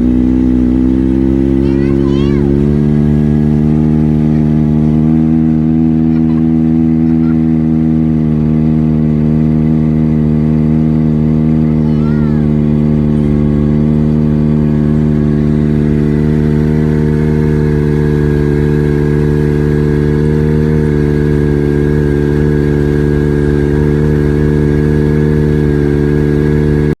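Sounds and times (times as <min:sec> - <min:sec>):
motorcycle engine running steadily: 0:00.0 - 0:27.0.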